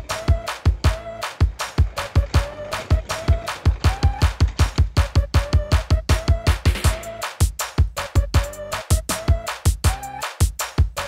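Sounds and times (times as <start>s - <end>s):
fast electronic drum beat: 0.0s - 11.0s.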